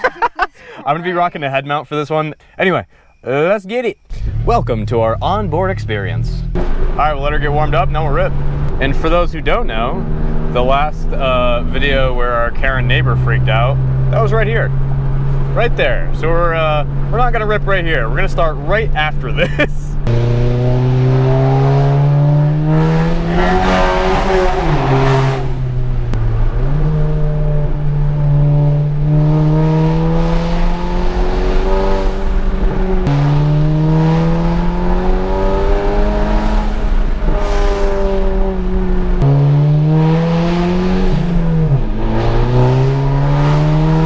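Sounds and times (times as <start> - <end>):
rushing bursts at gear shifts: 2.6 - 44.0
car engine accelerating: 4.1 - 44.0.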